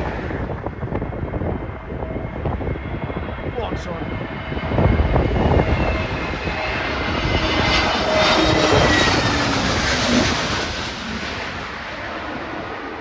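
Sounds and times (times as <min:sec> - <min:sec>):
airliner passing overhead: 0:00.0 - 0:13.0.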